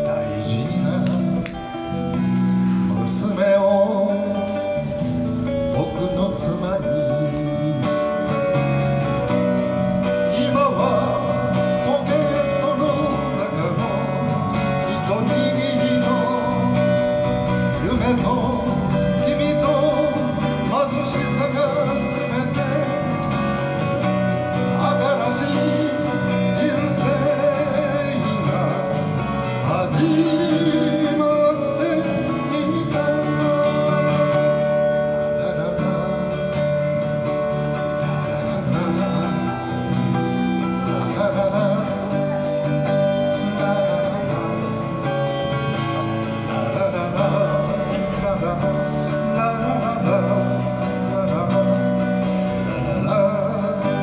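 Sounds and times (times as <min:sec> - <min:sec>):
acoustic guitar: 0:00.0 - 0:54.0
electric bass: 0:00.0 - 0:54.0
person singing: 0:00.0 - 0:54.0.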